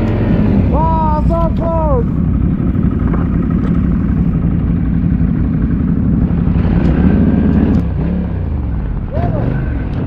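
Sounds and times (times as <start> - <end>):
quad engine revving: 0.0 - 10.0.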